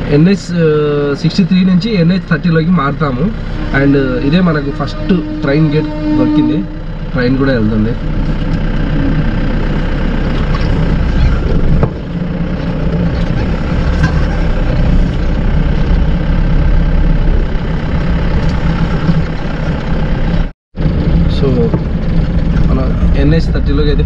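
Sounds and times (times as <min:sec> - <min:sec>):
heavy vehicle engines rumbling: 0:00.0 - 0:24.0.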